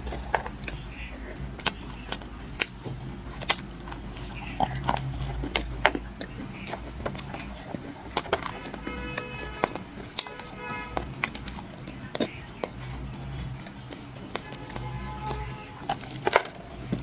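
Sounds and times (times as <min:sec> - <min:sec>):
dry clay cracking: 0:00.0 - 0:17.0.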